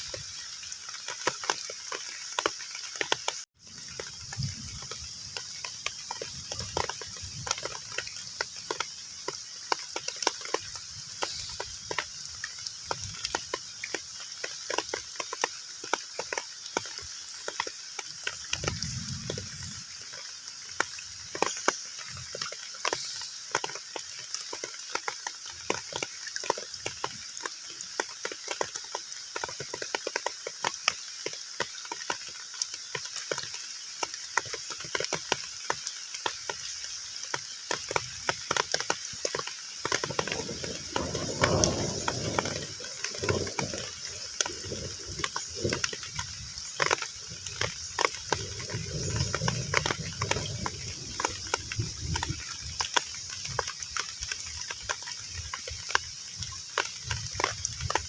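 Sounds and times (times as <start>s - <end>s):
heavy rain on pond: 0.0s - 58.0s.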